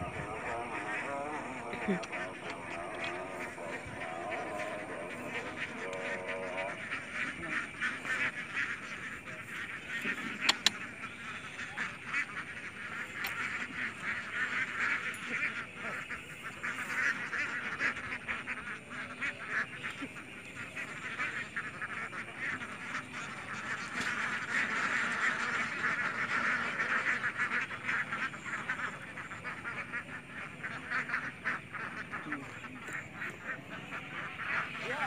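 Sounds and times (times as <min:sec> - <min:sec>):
chorus of quacking calls: 0:00.0 - 0:35.0.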